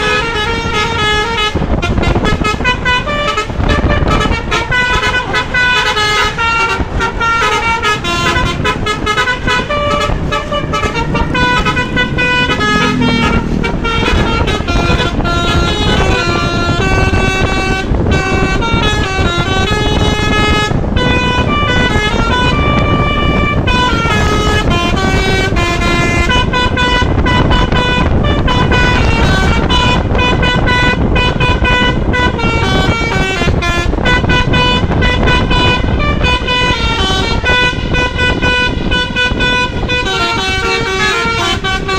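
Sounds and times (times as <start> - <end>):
bus rumbling: 0.0 - 41.9
musical air horn playing tune: 0.0 - 41.9.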